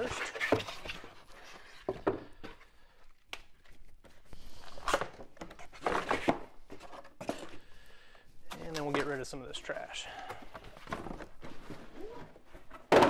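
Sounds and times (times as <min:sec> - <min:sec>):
packing inserts rustling and scraping: 0:00.0 - 0:03.0, 0:03.6 - 0:07.8, 0:08.5 - 0:12.9.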